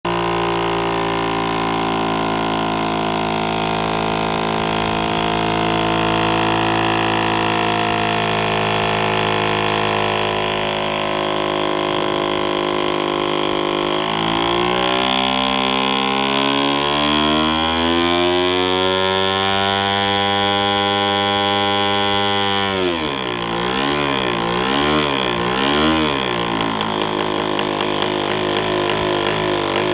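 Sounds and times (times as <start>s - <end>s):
model aircraft engine running: 0.1s - 29.9s.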